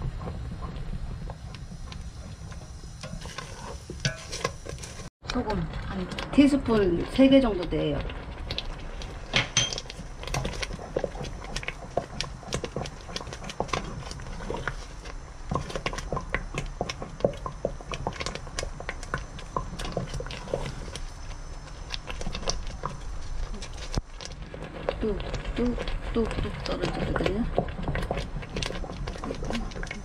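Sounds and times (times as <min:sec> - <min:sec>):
thick batter bubbling while stirred: 0:00.0 - 0:30.0.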